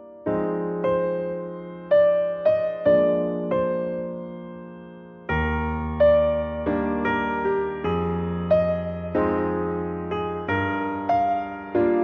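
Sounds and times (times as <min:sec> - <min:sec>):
slow electric piano melody: 0:00.0 - 0:12.0.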